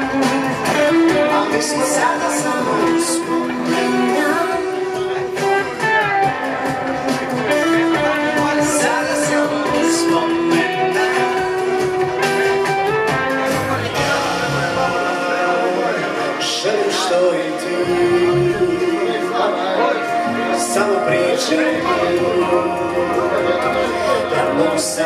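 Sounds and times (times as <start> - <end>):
acoustic guitar: 0.0 - 25.0
electric guitar: 0.0 - 25.0
person singing: 0.0 - 25.0.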